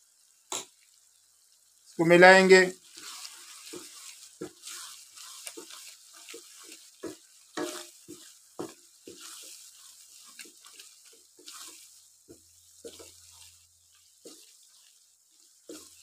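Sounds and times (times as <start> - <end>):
faint sizzle: 0.0 - 16.0
wooden spoon scraping a pan: 2.3 - 16.0.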